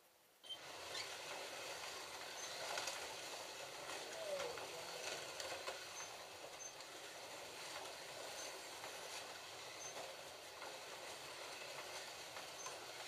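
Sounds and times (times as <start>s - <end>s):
cars clicking on rails: 0.6s - 13.0s.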